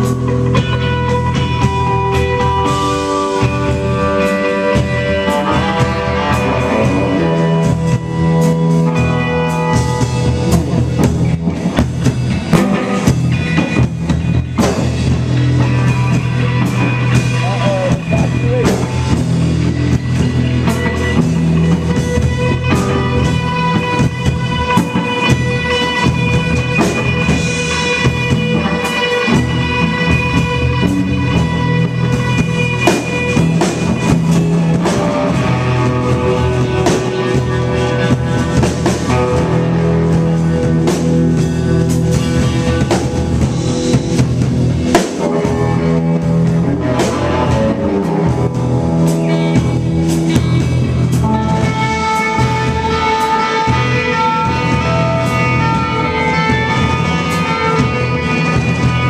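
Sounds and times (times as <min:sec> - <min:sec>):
drum and cymbal hits: 0:00.0 - 0:59.0
electric guitar chords: 0:00.0 - 0:59.0.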